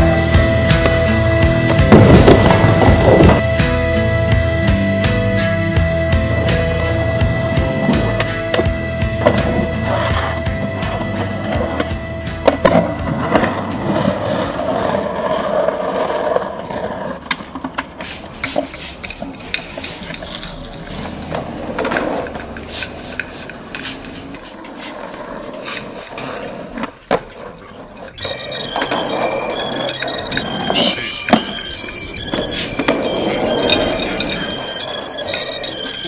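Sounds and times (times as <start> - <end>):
skateboard clacking: 0.0 - 4.3, 5.8 - 36.0
skateboard wheels rolling on concrete: 0.0 - 36.0.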